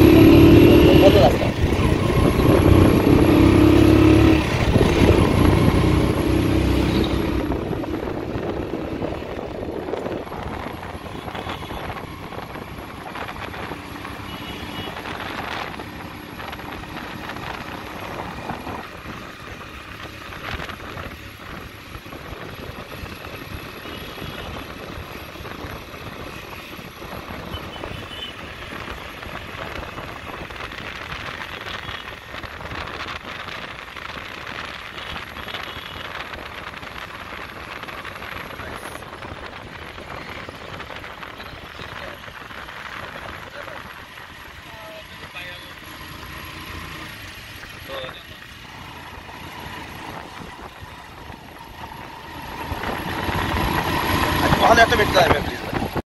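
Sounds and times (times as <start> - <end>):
road noise: 0.0 - 56.0
vehicle engine: 0.0 - 56.0.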